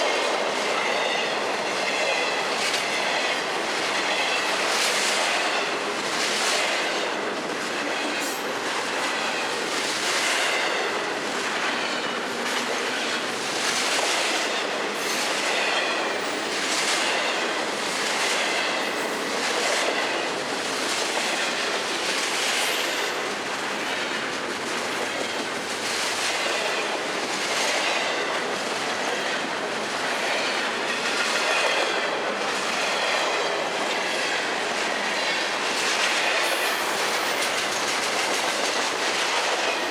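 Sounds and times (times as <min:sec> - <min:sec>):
freight train rolling past: 0:00.0 - 0:39.9
train wheel clatter: 0:00.0 - 0:39.9.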